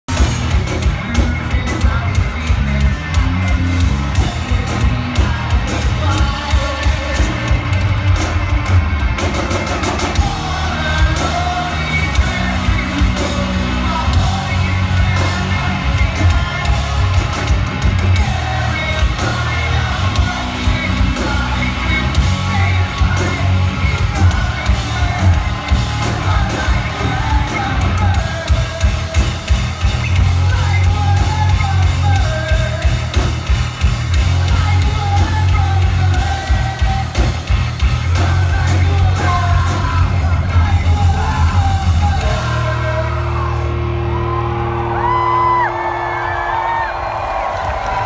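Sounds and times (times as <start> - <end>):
live rock band: 0.1 - 48.0
lead vocal singing: 0.2 - 33.6, 34.2 - 48.0.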